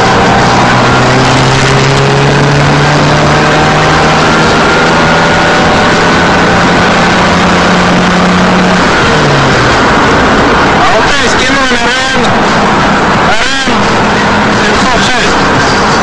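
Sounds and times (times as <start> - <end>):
car engine hum: 0.0 - 16.0
loud rushing road noise: 0.0 - 16.0.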